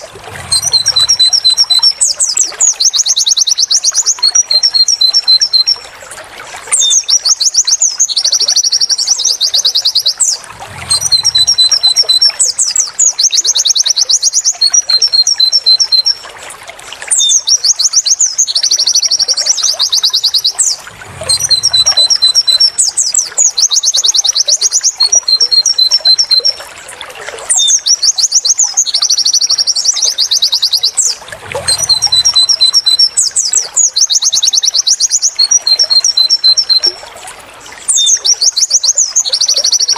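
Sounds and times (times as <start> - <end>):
bird song with high trilled chirps: 0.0 - 5.9, 6.7 - 16.2, 17.1 - 26.7, 27.5 - 37.0, 37.8 - 39.9.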